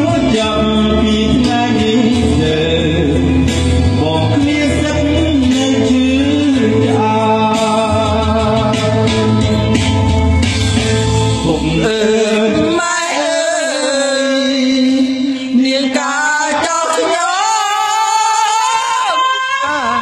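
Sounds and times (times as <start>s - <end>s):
man singing into microphone: 0.0s - 9.9s, 11.3s - 20.0s
karaoke backing track: 0.0s - 20.0s.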